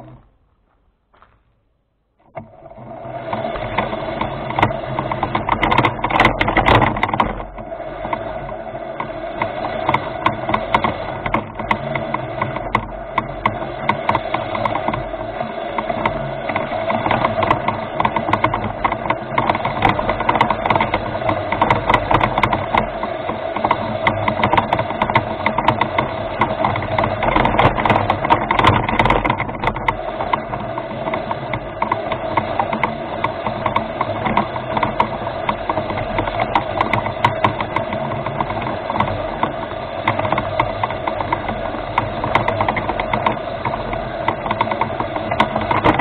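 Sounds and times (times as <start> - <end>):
electric motors whining: 0.0 - 1.0, 2.2 - 46.0
light rattling and clicking: 2.2 - 46.0.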